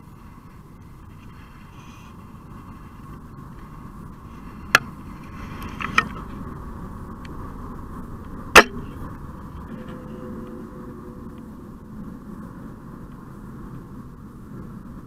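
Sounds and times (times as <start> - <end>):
highway traffic drone: 0.0 - 15.0.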